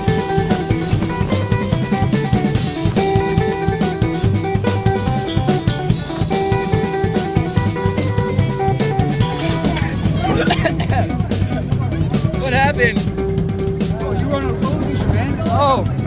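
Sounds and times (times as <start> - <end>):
drum kit and guitar music: 0.0 - 16.0.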